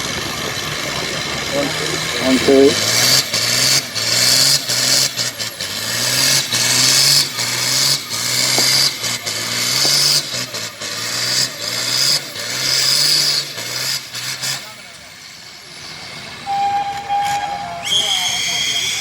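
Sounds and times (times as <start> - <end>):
tractor engine labouring: 0.0 - 19.0.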